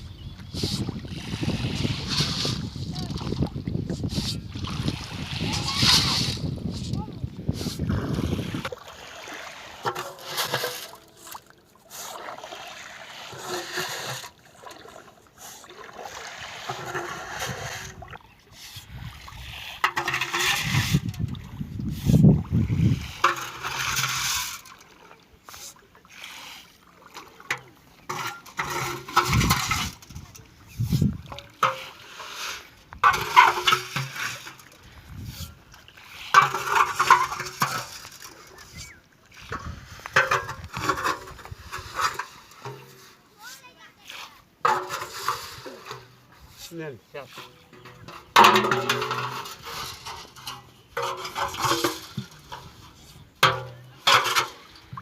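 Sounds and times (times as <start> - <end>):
water splashing and sloshing: 0.0 - 55.0.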